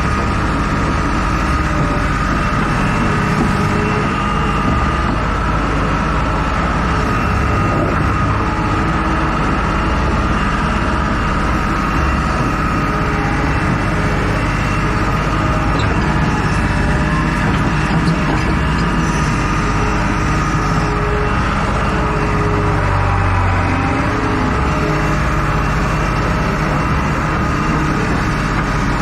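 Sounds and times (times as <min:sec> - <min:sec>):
heavy vehicle engine rumbling: 0:00.0 - 0:29.0.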